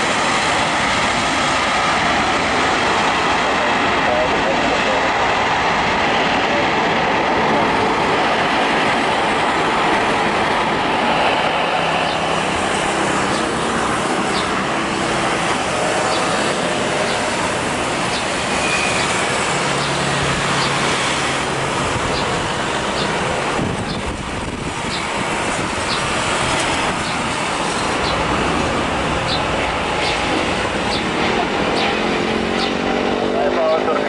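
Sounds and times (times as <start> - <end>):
loud traffic roar: 0.0 - 34.0.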